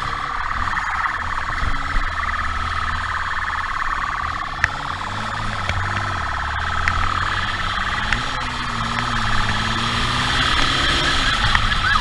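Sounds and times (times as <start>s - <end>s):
motorcycle engine running: 0.0s - 12.0s
warbling police siren: 0.0s - 12.0s.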